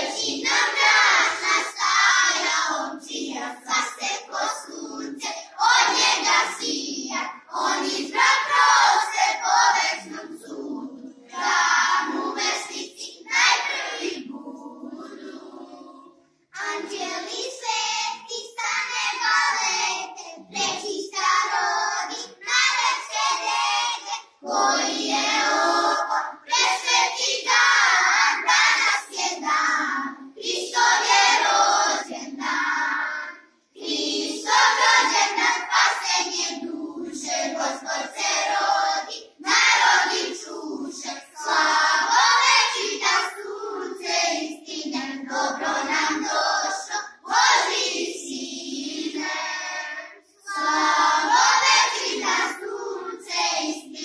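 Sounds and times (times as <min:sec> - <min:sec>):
children singing together: 0:00.0 - 0:54.0.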